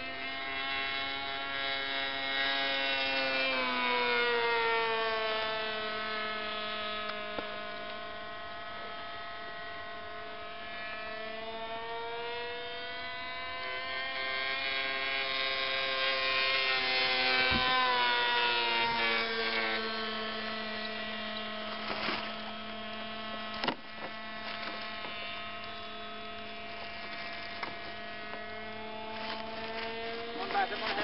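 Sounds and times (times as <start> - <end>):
model airplane engine droning: 0.0 - 31.0.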